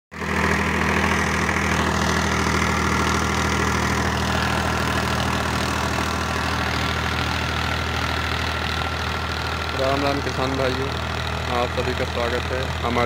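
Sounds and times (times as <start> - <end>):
tractor diesel engine running: 0.1 - 13.0.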